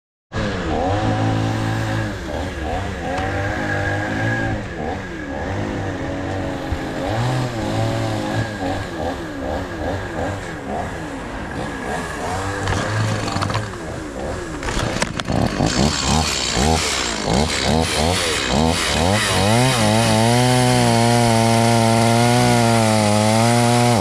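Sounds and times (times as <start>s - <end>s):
chainsaw engine revving: 0.3s - 24.0s.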